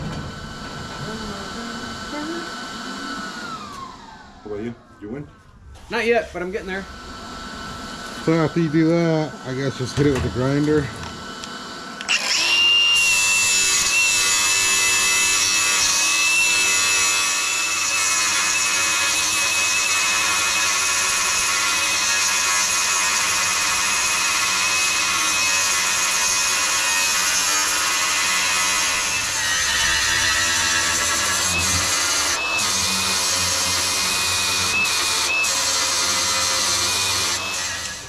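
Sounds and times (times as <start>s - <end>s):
angle grinder whining on steel: 0.0s - 5.1s, 5.9s - 38.0s.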